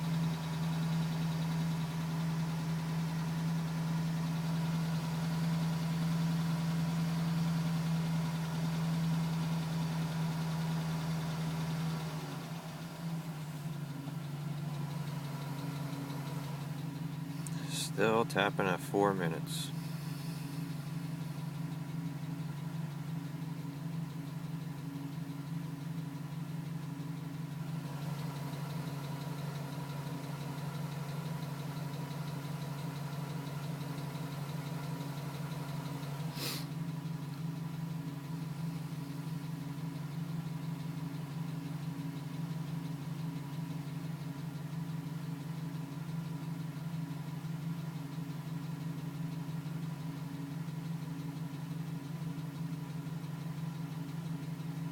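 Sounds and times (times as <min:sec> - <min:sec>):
truck engine idling with tapping: 0:00.0 - 0:54.9.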